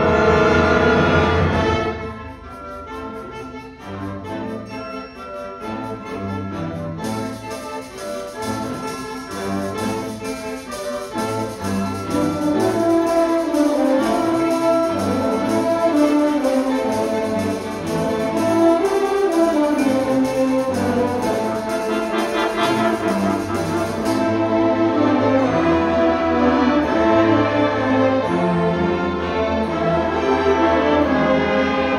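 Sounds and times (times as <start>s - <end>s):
orchestra playing: 0.0s - 31.9s.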